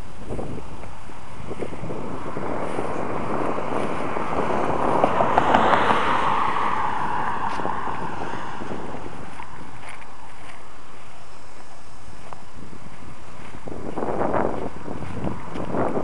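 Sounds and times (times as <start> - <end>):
rushing vehicle noise: 0.0 - 16.0
wind on microphone: 0.0 - 16.0.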